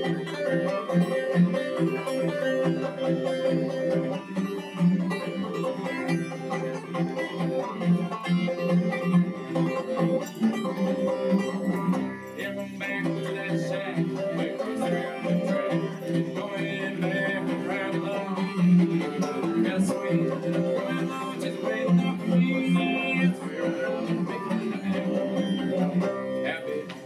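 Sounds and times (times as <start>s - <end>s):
banjo picking: 0.0s - 27.0s
cello low line: 0.0s - 27.0s.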